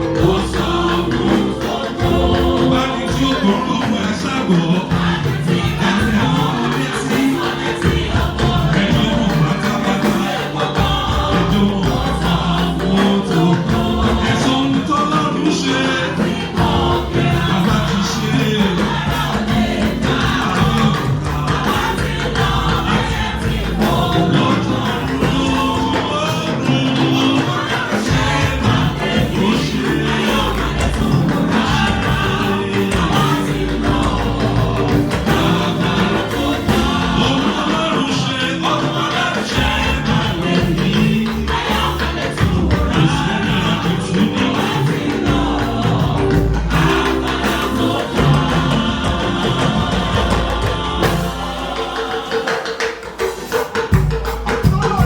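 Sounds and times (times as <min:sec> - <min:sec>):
band with strong bass line: 0:00.0 - 0:52.5
choir singing gospel: 0:00.0 - 0:55.0
instrumental accompaniment with beat: 0:00.0 - 0:55.0.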